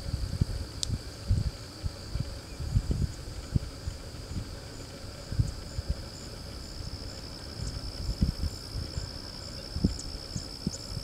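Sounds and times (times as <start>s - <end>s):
insects trilling: 0.0s - 11.0s
insect short high chirps: 1.9s - 11.0s.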